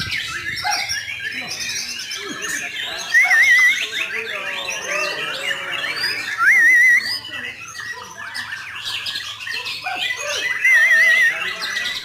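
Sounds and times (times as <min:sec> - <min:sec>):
loud wavering bird trill: 0:00.0 - 0:12.0
songbirds singing and chirping: 0:00.0 - 0:12.0.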